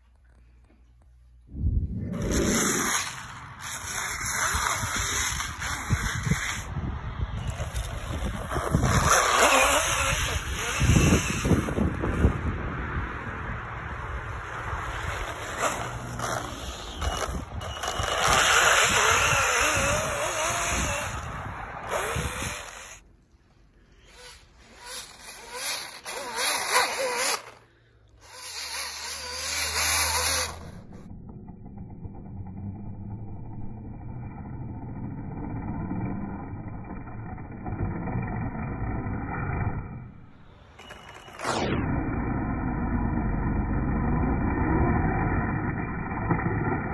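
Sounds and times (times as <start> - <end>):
track churning snow: 1.5 - 46.9
model snowmobile motor whining: 2.1 - 23.1, 23.9 - 46.9.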